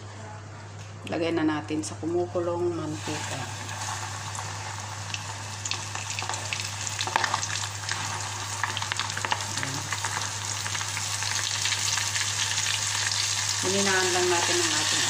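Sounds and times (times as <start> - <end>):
oil sizzling with crackles: 2.9 - 15.0.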